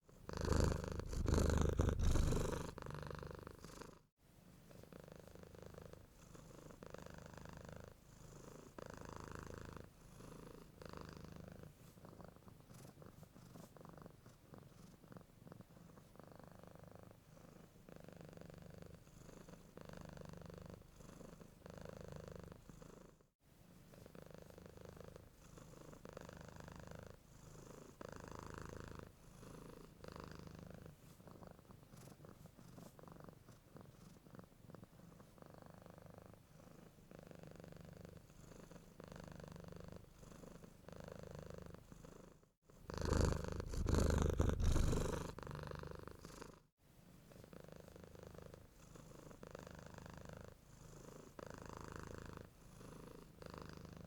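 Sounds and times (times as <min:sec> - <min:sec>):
cat purring: 0:00.0 - 0:04.1, 0:04.7 - 0:23.2, 0:23.8 - 0:54.0.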